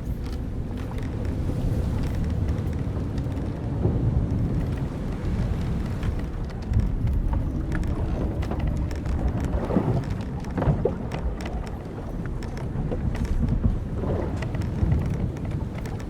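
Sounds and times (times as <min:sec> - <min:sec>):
sea rumbling: 0:00.0 - 0:16.0
wind: 0:00.0 - 0:16.0
wooden boat timbers creaking: 0:00.0 - 0:16.0.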